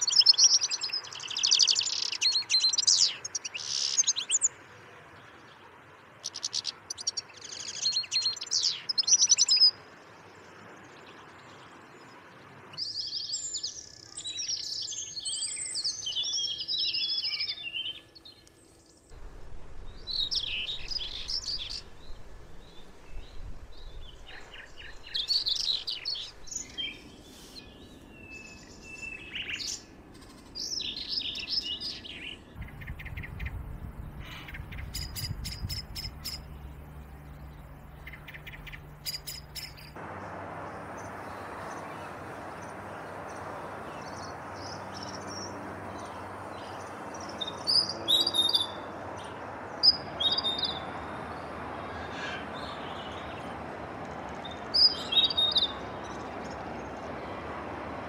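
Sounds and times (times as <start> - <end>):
finch twittering song: 0.0 - 4.6, 6.2 - 40.0, 43.3 - 53.6, 54.3 - 57.3
songbirds warbling: 0.0 - 58.0.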